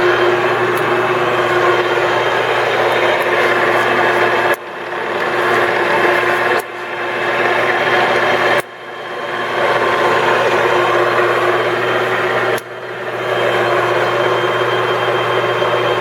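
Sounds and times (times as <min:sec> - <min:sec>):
lathe click: 0:00.0 - 0:15.9
metal lathe humming and whining: 0:00.0 - 0:16.0.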